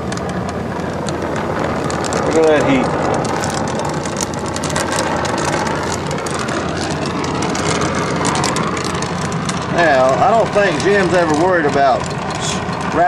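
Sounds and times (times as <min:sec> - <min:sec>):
low steady rumble: 0:00.0 - 0:13.0
torch flame hissing: 0:00.0 - 0:13.0.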